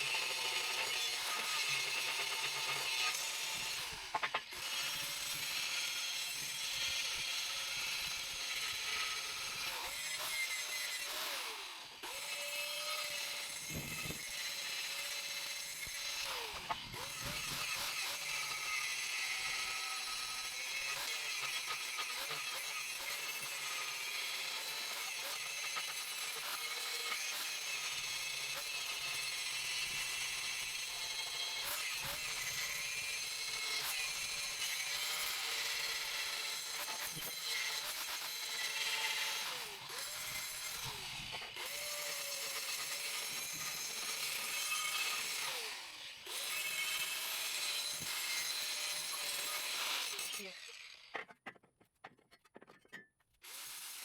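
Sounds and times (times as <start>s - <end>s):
angle grinder on steel: 0.0s - 51.3s, 53.4s - 54.0s.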